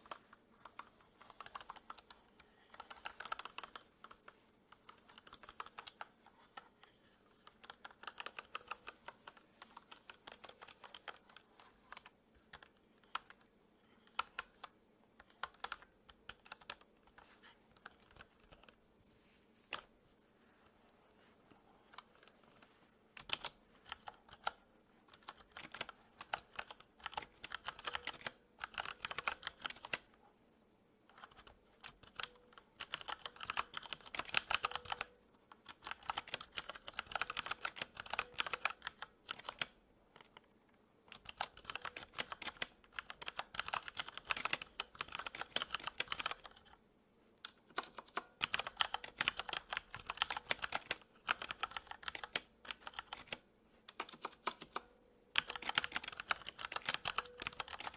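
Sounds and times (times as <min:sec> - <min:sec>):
typing on computer keyboard: 0:00.0 - 0:18.8, 0:21.8 - 0:30.1, 0:31.1 - 0:40.5, 0:41.1 - 0:46.8, 0:47.4 - 0:57.9.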